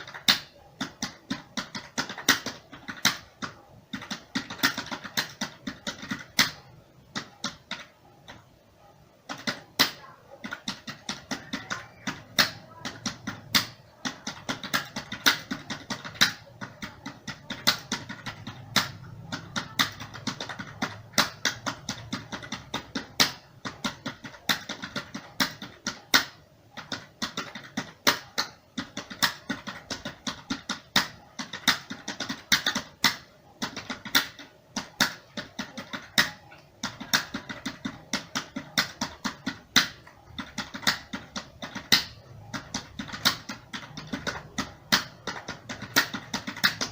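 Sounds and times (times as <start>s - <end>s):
computer keyboard typing: 0.0s - 46.9s.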